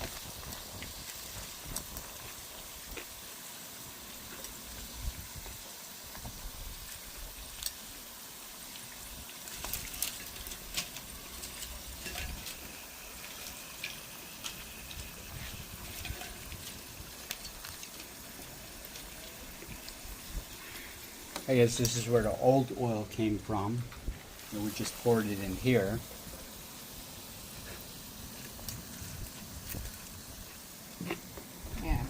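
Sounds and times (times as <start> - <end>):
fish frying in hot oil: 0.0 - 32.0
oil popping and crackling: 0.0 - 32.0.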